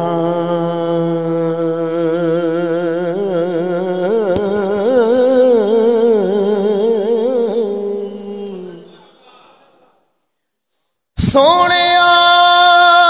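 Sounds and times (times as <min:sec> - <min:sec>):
man singing wordless held notes: 0:00.0 - 0:09.0, 0:11.2 - 0:13.0.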